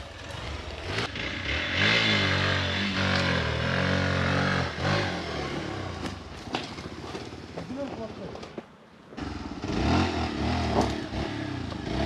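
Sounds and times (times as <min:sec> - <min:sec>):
motorcycle engine revving: 0:00.0 - 0:07.6, 0:09.2 - 0:12.0.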